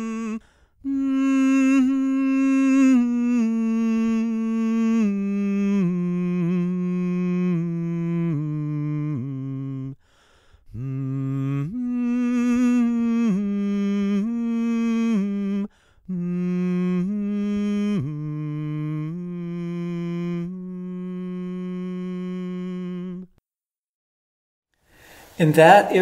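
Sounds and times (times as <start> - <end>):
person singing wordless melody: 0.0 - 23.4.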